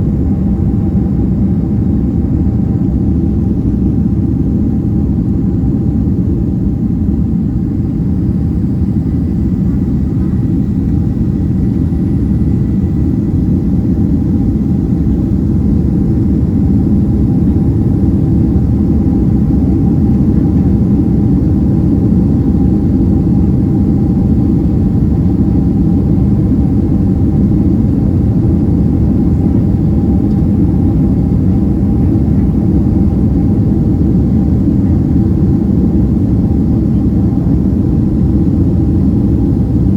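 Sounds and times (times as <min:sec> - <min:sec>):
faint steady engine tone: 0:00.0 - 0:39.9
jet engine cabin rumble: 0:00.0 - 0:39.9.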